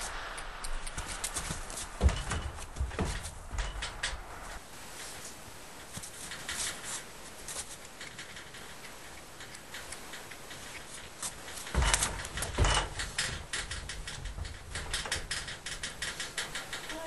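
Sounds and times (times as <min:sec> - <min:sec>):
faint clicks: 0:00.0 - 0:02.0, 0:03.6 - 0:17.0
hooves thumping on trailer floor: 0:00.0 - 0:17.0.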